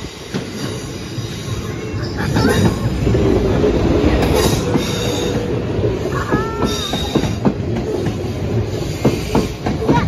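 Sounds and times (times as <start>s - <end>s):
electric train passing: 0.0s - 10.0s.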